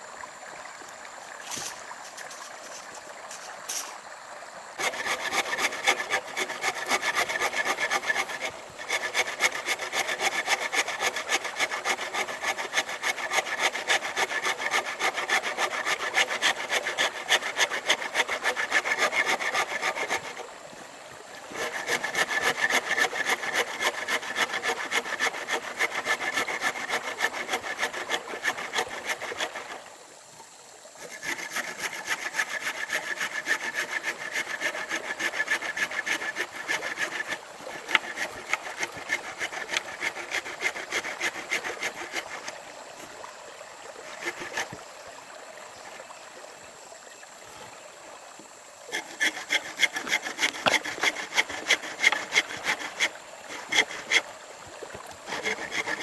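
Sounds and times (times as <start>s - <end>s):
hand saw cutting wood: 1.5s - 4.0s, 4.8s - 29.9s, 31.0s - 43.2s, 43.9s - 44.8s, 48.9s - 56.0s.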